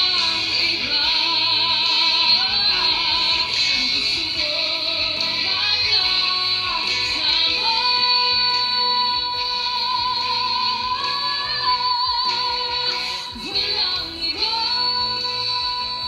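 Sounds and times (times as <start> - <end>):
band backing music: 0.0 - 16.0
woman singing pop ballad: 0.0 - 16.0.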